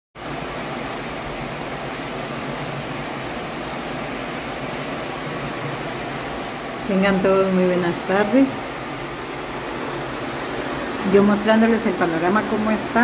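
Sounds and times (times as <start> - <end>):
heavy rain falling: 0.2 - 13.0.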